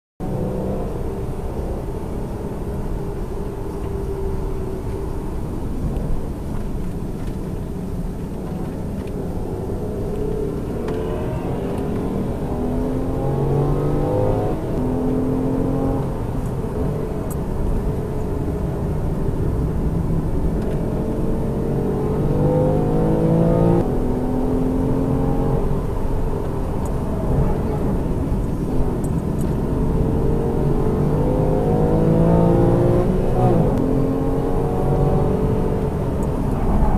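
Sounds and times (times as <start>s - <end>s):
car engine accelerating: 0.2s - 36.9s
road and tyre rumble: 0.2s - 36.9s.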